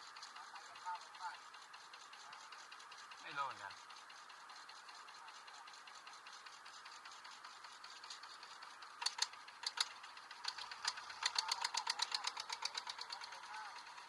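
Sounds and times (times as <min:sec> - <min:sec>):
small engine ticking: 0:00.0 - 0:14.0.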